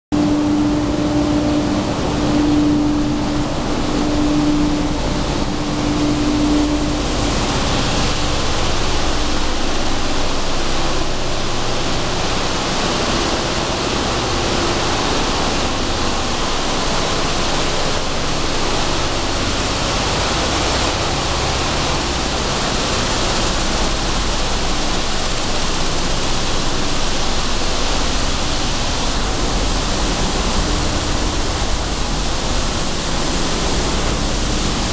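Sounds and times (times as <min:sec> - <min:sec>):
machinery rushing noise: 0:00.1 - 0:34.9
steady hum: 0:00.1 - 0:34.9.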